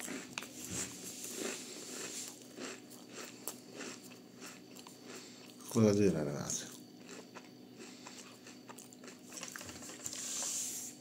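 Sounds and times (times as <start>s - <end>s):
person chewing food: 0.0s - 5.8s, 6.7s - 11.0s.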